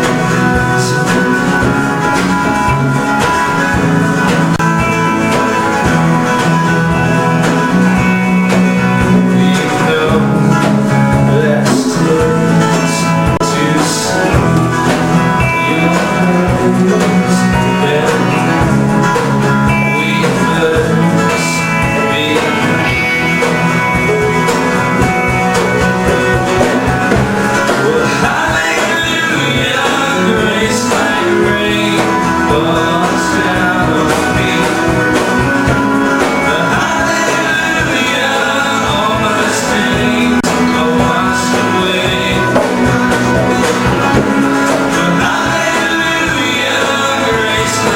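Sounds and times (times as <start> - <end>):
live band playing country-style music: 0.0 - 47.9.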